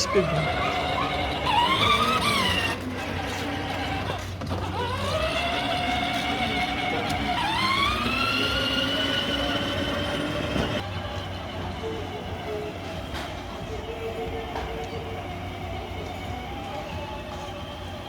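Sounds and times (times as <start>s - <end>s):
toy car electric motor whining: 0.0s - 18.0s.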